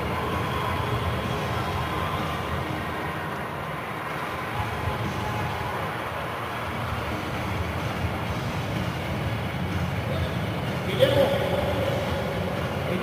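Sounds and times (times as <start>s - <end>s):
arena crowd hubbub: 0.0s - 13.0s.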